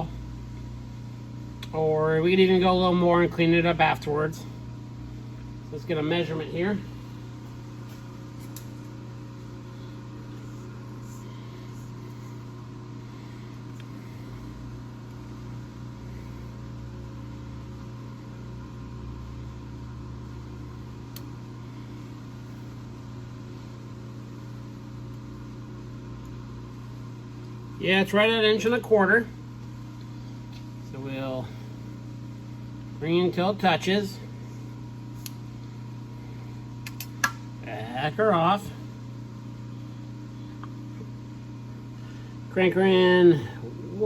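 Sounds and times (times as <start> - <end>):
electrical machine hum: 0.0 - 44.0.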